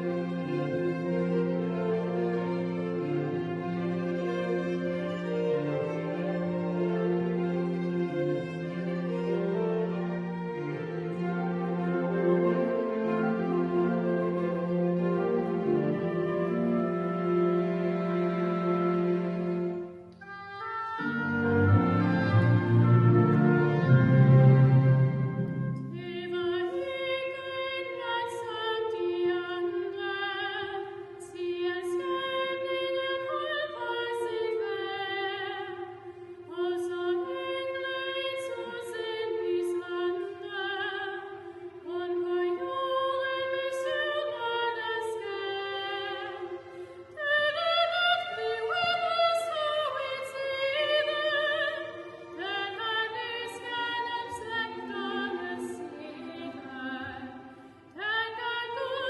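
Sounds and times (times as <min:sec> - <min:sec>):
chamber orchestra: 0:00.0 - 0:59.0.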